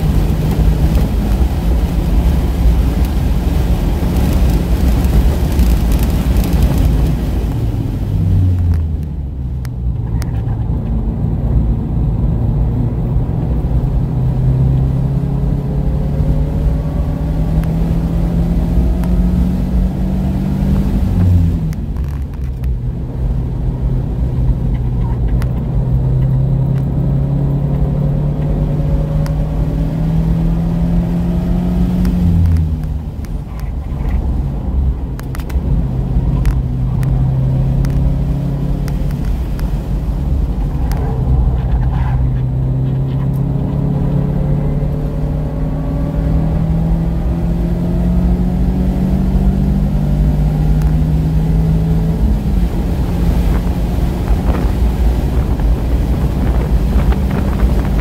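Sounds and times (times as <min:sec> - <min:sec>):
car engine under hard driving: 0:00.0 - 0:58.0
tyre and road noise: 0:00.0 - 0:58.0.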